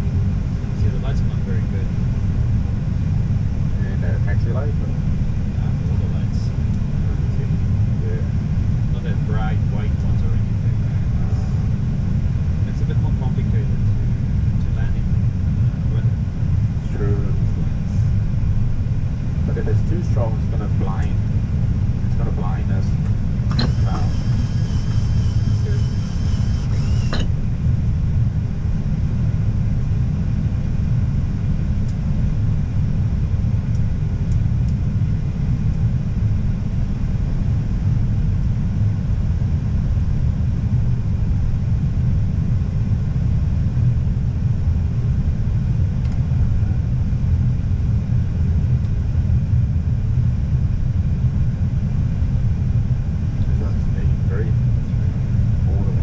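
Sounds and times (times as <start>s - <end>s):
cockpit airflow and engine rumble: 0.0s - 56.0s.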